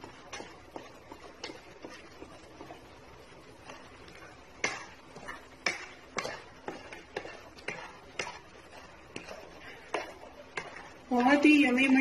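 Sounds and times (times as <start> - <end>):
wooden spatula scraping a pan: 0.0 - 12.0.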